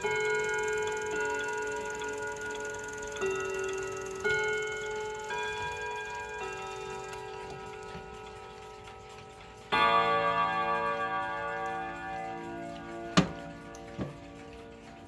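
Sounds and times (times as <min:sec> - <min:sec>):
clock gong ringing: 0:00.0 - 0:15.0
clock ticking: 0:00.0 - 0:15.0.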